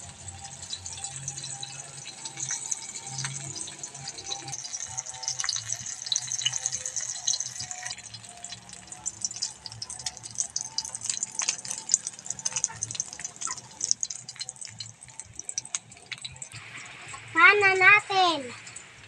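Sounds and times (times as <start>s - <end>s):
battered food sizzling in oil: 0.0s - 19.0s.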